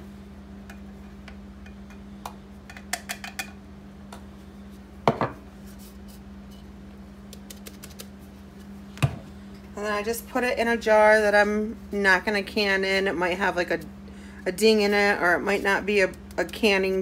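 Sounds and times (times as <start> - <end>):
box fan humming: 0.0 - 17.0.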